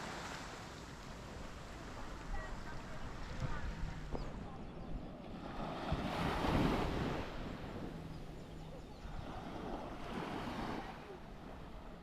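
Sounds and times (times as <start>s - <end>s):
waves breaking on beach: 0.0s - 4.2s, 5.2s - 12.0s
wind on microphone: 1.3s - 12.0s.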